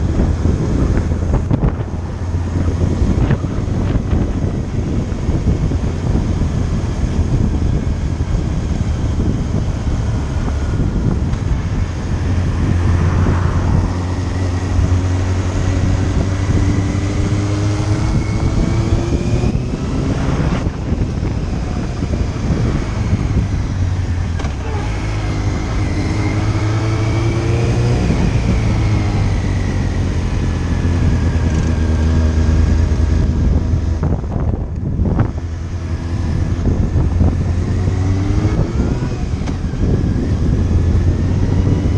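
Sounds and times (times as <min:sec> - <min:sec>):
motorcycle engine revving: 0:00.0 - 0:41.9
wind noise: 0:00.0 - 0:41.9.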